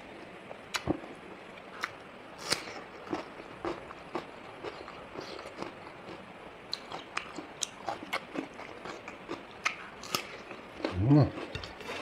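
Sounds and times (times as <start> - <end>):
chewing and biting food: 1.6 - 12.0.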